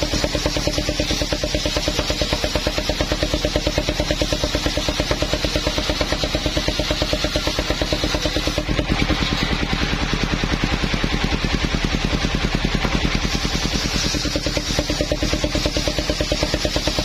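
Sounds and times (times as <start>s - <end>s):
sawmill engine chugging: 0.0s - 17.0s.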